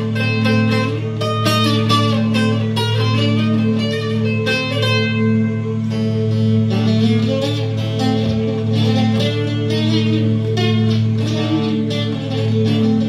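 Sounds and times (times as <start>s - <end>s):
low drone: 0.0s - 13.0s
plucked strings playing runs: 0.0s - 13.0s.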